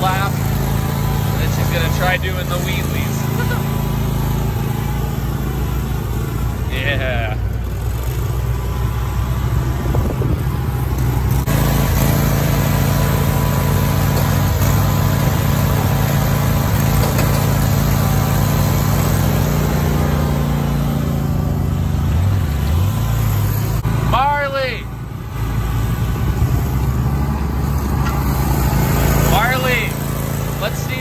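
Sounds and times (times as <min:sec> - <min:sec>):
riding mower engine running: 0:00.0 - 0:31.0.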